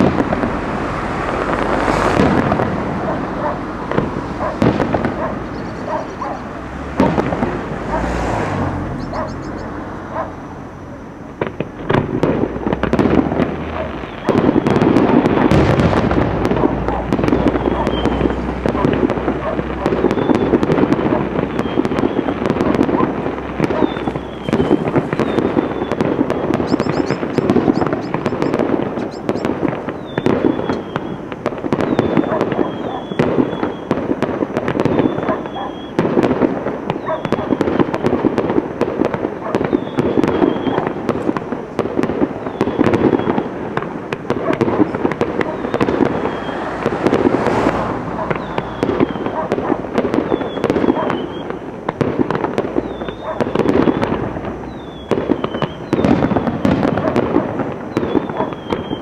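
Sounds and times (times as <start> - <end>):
firework whistles: 0.0 - 59.0
fireworks crackling and banging: 0.0 - 59.0.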